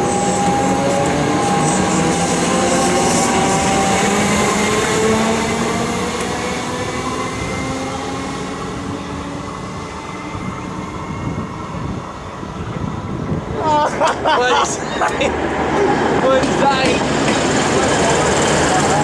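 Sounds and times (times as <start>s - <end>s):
electric train passing: 0.0s - 13.6s, 14.2s - 19.0s.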